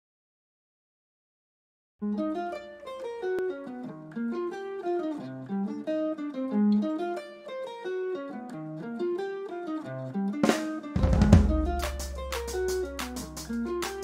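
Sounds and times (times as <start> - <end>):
plucked string instrument melody: 2.0 - 14.0.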